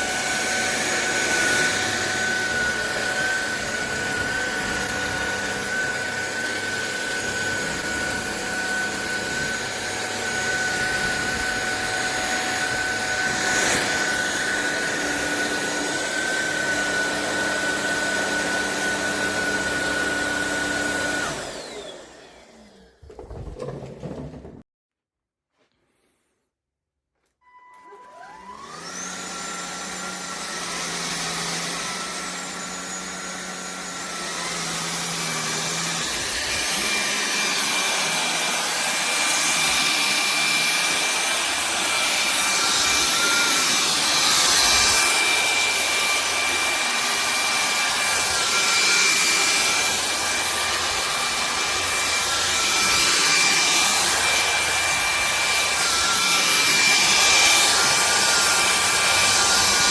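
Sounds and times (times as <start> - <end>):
stick vacuum motor whine: 0.0 - 24.5, 27.4 - 59.9.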